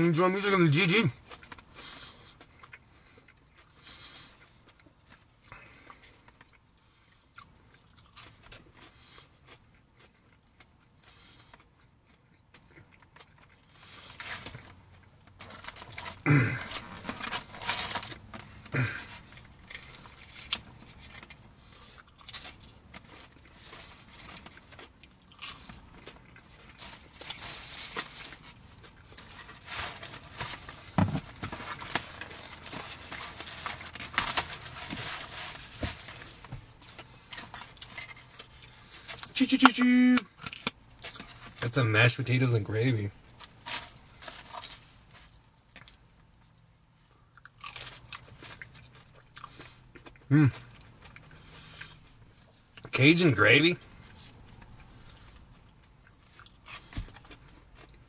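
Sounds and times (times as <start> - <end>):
chewing crunchy fried chicken: 0.1 - 42.1, 42.7 - 58.0.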